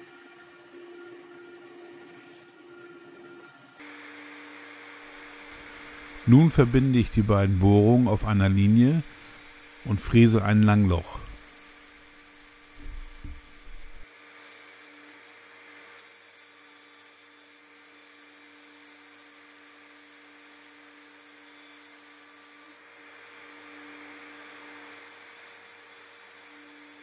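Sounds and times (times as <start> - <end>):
router whining: 0.0 - 27.0.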